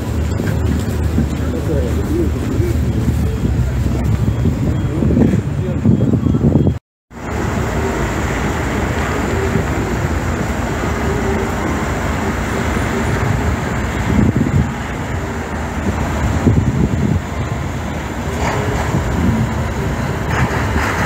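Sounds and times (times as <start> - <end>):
low engine rumble: 0.0 - 21.0
street traffic noise: 0.0 - 21.0.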